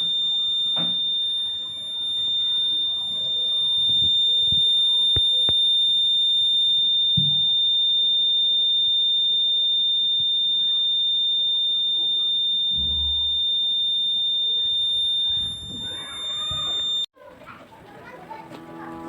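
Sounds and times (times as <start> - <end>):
buzzer high-pitched tone: 0.0 - 17.1.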